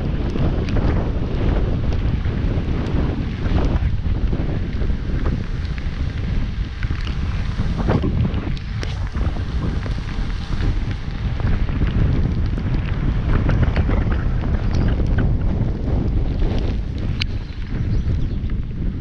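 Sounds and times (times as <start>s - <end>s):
small ticks and clicks: 0.0s - 19.0s
wind buffeting microphone: 0.0s - 19.0s.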